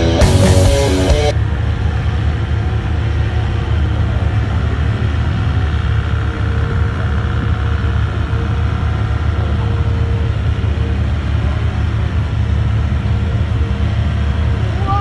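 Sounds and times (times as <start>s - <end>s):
buggy engine low rumble: 0.0s - 15.0s.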